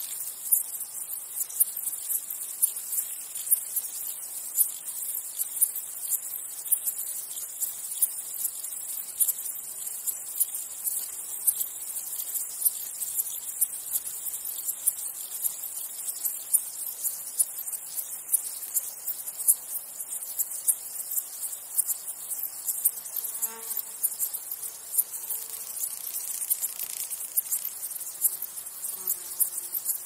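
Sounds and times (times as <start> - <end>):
insect clicking pulses: 0.0 - 30.0
insects buzzing: 0.0 - 30.0.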